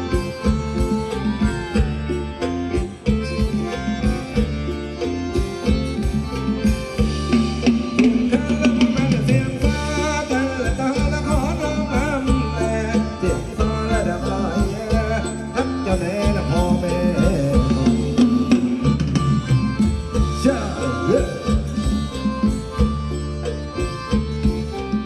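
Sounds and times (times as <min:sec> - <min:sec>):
live band playing dance music: 0:00.0 - 0:25.0.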